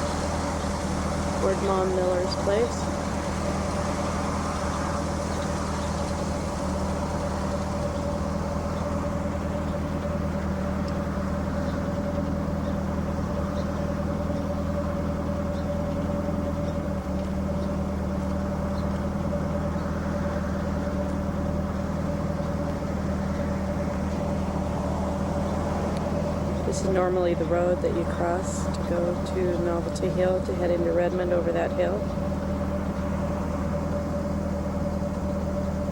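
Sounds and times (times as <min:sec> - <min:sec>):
engine droning steadily: 0:00.0 - 0:35.9.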